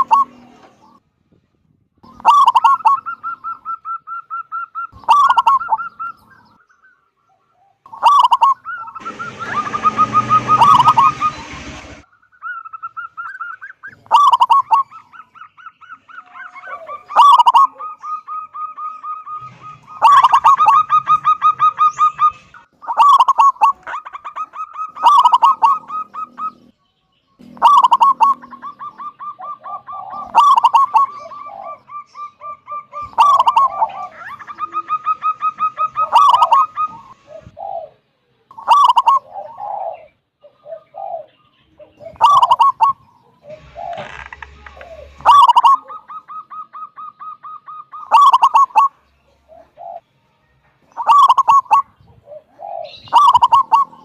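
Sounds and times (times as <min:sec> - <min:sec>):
dove cooing with rattling trill: 0:00.0 - 0:01.0, 0:02.0 - 0:06.6, 0:07.2 - 0:26.8, 0:27.4 - 0:50.1, 0:50.9 - 0:54.0.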